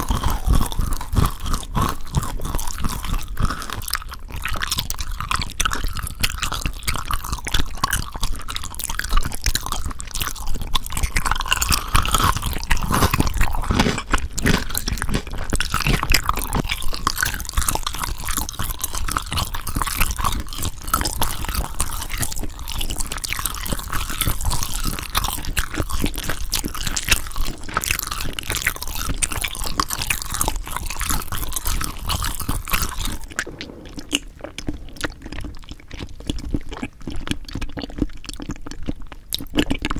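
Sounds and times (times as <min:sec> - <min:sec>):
crunchy eating and chewing: 0:00.0 - 0:39.9.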